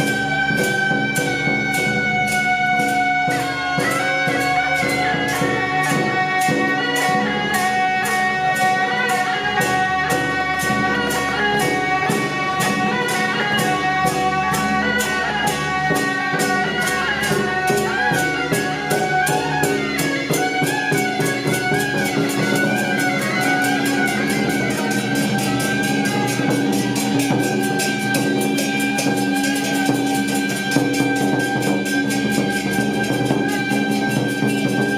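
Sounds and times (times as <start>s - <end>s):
fast percussion beat: 0.0s - 34.9s
wavering sustained melody: 1.2s - 34.8s.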